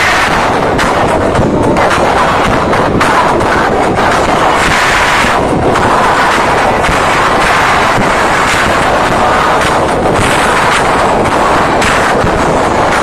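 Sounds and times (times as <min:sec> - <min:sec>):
concert crowd screaming: 0:00.0 - 0:13.0.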